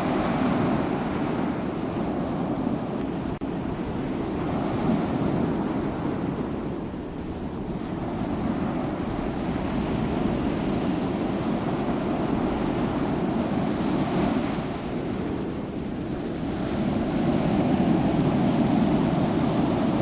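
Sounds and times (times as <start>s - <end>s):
sea waves surf: 0.0s - 20.0s.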